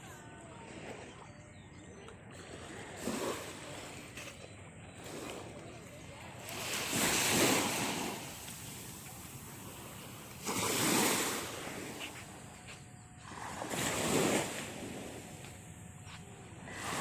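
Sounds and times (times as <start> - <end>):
waves washing onto beach: 2.3 - 17.0.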